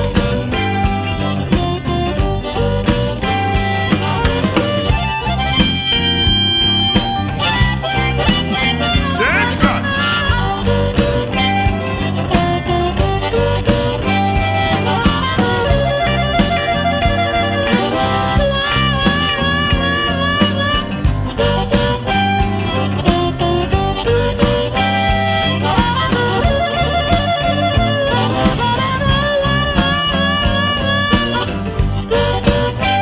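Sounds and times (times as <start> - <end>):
bass: 0.0 - 33.0
electric blues band playing: 0.0 - 33.0.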